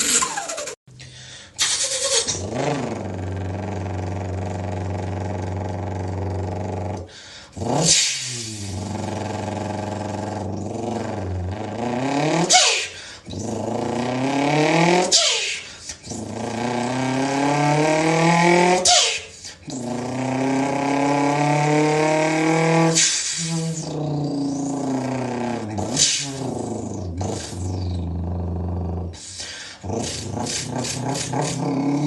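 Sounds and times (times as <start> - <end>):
car engine revving: 1.6 - 7.0, 7.6 - 15.4, 16.0 - 29.2, 29.8 - 32.0.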